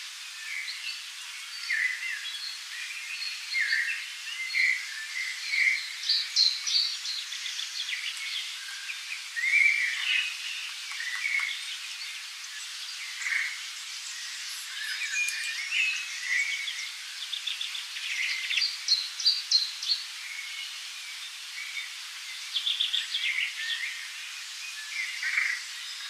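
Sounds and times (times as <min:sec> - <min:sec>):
forest ambience hiss: 0:00.0 - 0:26.0
songbirds chirping and singing: 0:00.0 - 0:26.0.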